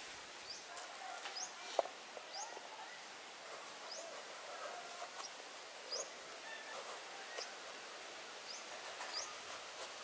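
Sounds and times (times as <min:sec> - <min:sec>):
steady background hiss: 0:00.0 - 0:10.0
birds chirping: 0:00.4 - 0:10.0.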